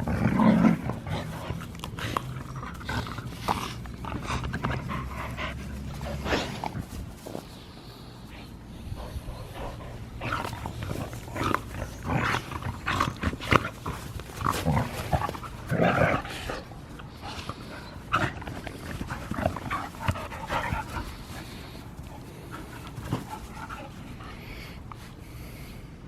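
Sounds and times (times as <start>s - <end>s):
dogs scuffling: 0.0s - 8.0s, 9.1s - 25.1s
dogs play-fighting: 0.0s - 25.7s.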